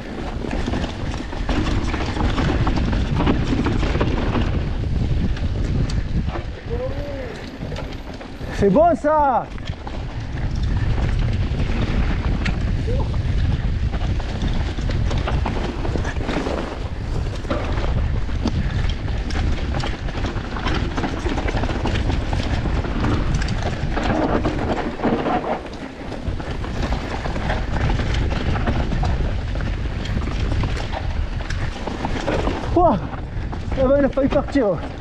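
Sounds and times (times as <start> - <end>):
bike chain and frame rattling: 0.0 - 35.0
tyres rolling on rock and dirt: 0.0 - 35.0
wind buffeting microphone: 0.0 - 35.0.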